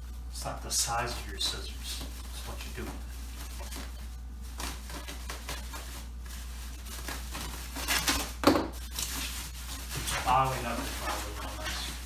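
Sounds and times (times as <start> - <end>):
steady low hum: 0.0 - 12.0
wrapping rustling: 0.0 - 12.0.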